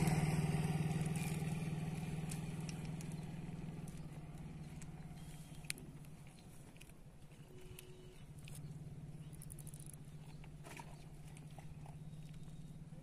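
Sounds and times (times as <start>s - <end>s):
faint small engine hum: 0.0s - 13.0s.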